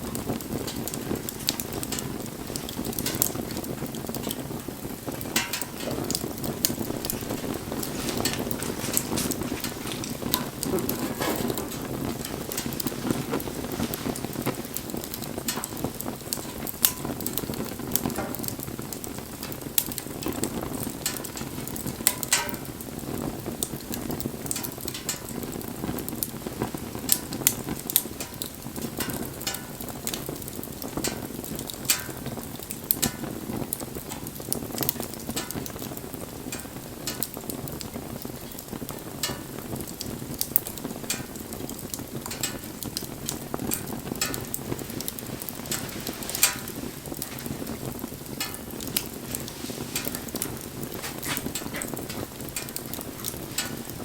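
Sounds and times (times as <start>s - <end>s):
bonfire crackling and popping: 0.0s - 54.0s.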